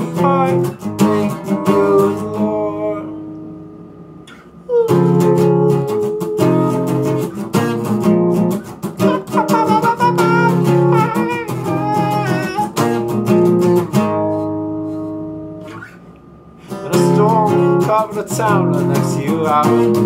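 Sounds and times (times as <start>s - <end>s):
acoustic guitar strumming: 0.0s - 16.0s, 16.6s - 20.0s.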